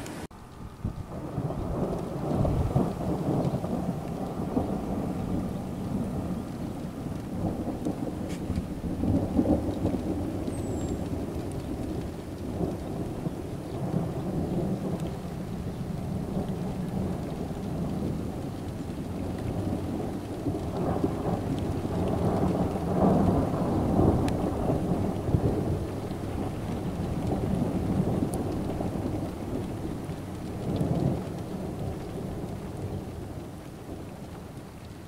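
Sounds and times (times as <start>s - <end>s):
rolling thunder: 0.1s - 34.1s.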